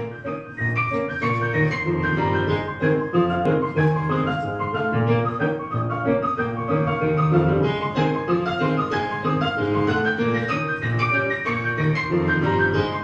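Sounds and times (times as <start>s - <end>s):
instrumental piano music: 0.0s - 13.0s.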